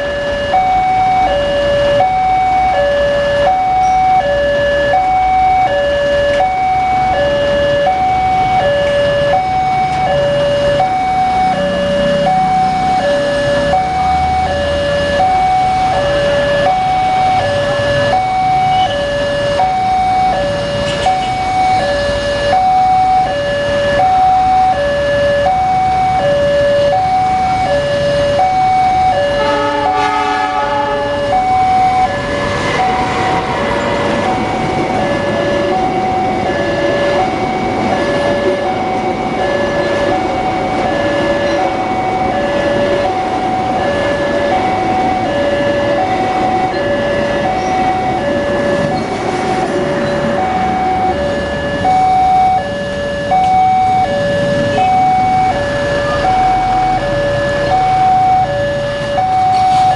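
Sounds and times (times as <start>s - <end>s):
richer tone: 0.0s - 59.8s
two-tone crossing alarm: 0.0s - 59.9s.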